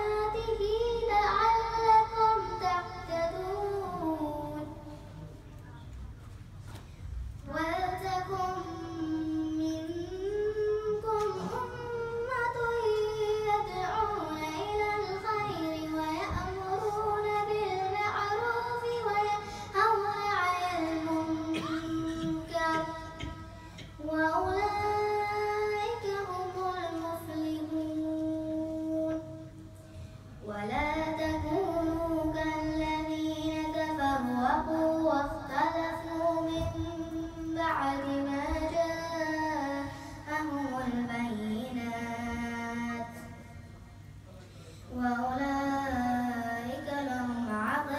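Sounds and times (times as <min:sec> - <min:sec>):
girl chanting a recitation: 0:00.0 - 0:05.8, 0:07.4 - 0:43.8, 0:44.9 - 0:47.9.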